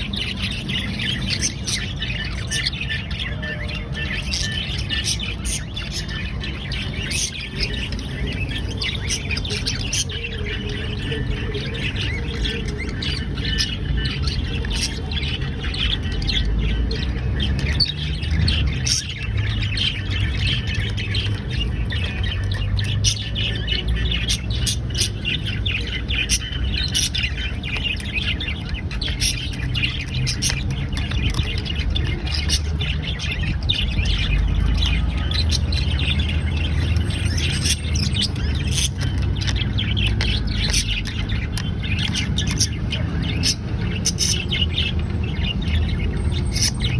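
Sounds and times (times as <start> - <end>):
bird chicks squawking and chirping: 0.0 - 46.9.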